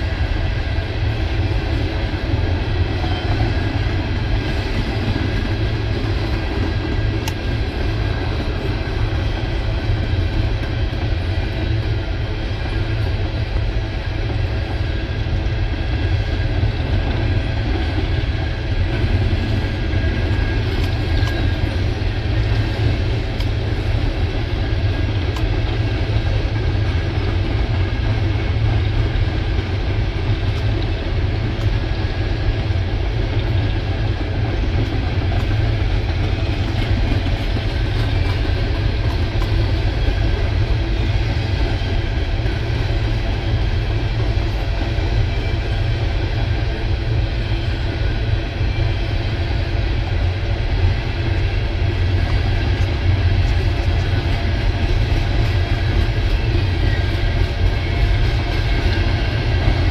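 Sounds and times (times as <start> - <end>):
steel train wheels rumbling on rail: 0.0 - 59.9.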